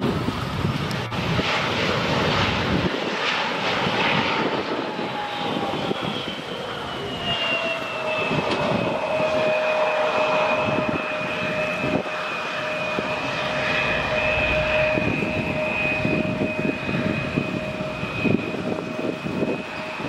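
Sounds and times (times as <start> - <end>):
jet engines whining: 0.0 - 20.0.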